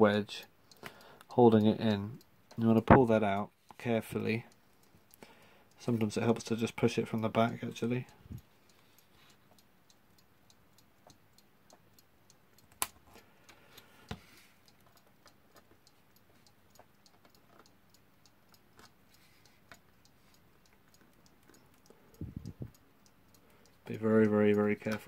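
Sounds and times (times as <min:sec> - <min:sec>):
clock ticking: 0:00.0 - 0:25.0.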